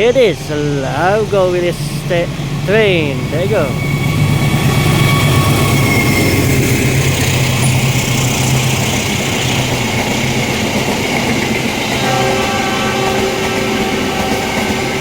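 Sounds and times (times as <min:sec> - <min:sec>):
diesel locomotive engine hum: 0:00.0 - 0:15.0
train carriages rolling on rails: 0:00.0 - 0:15.0.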